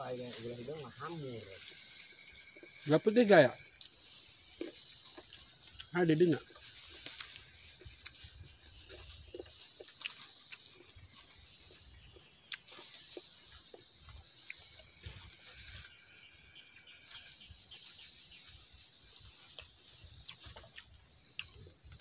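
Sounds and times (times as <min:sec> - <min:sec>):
insects droning: 0:00.0 - 0:22.0
eating rice by hand: 0:00.2 - 0:16.1, 0:18.6 - 0:22.0.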